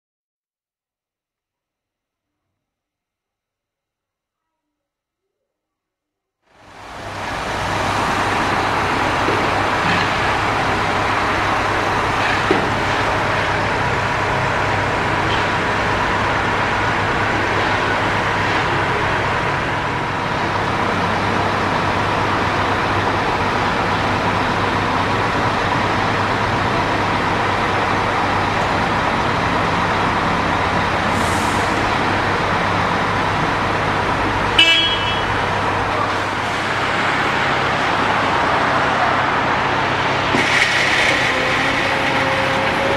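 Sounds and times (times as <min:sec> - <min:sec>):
heavy diesel engines running: 0:06.5 - 0:42.9.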